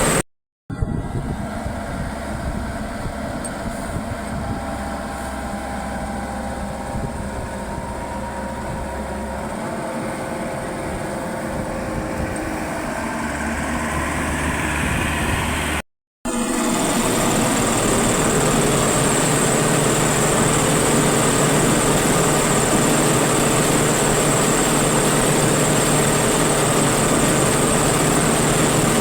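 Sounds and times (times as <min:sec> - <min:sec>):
combine harvester droning: 0:00.0 - 0:29.0.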